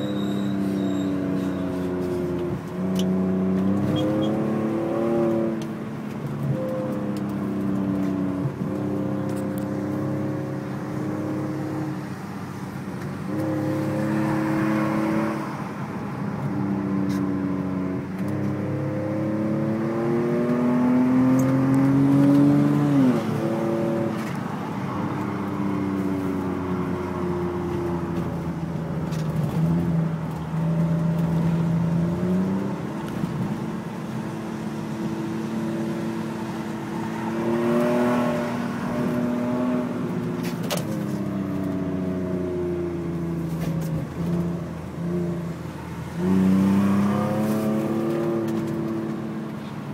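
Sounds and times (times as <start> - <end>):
car engine revving: 0.7 - 49.9.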